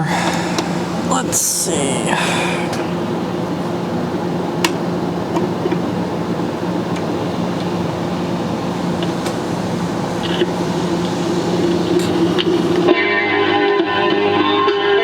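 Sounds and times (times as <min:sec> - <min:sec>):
amplifier hum: 0:00.0 - 0:14.2
record surface hiss: 0:00.0 - 0:15.0.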